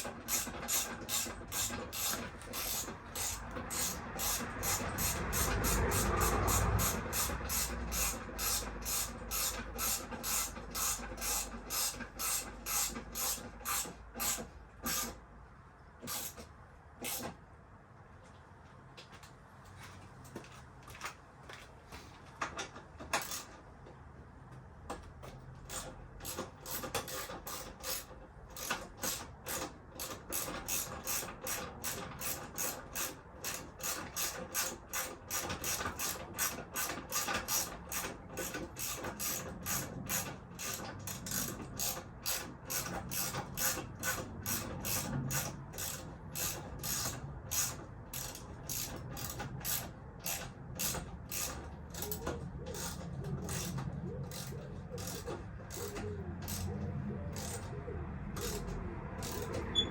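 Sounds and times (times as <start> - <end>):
ratchet wrench clicking: 0.0 - 15.2, 16.0 - 17.3, 23.1 - 23.5, 25.7 - 59.9.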